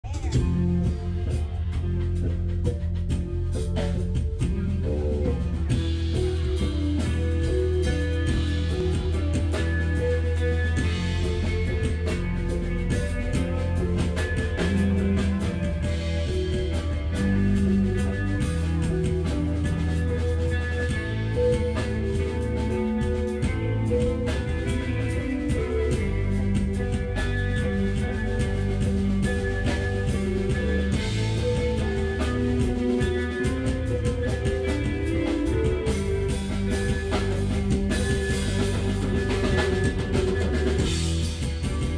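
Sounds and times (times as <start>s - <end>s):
drum and cymbal hits: 0.0s - 41.9s
electric guitars: 0.0s - 41.9s
live rock band playing: 0.0s - 41.9s.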